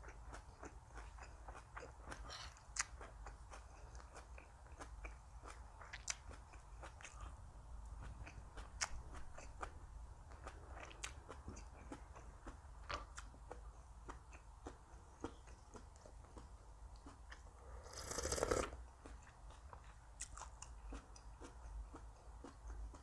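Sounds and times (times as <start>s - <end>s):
person chewing and crunching food: 0.0s - 23.0s.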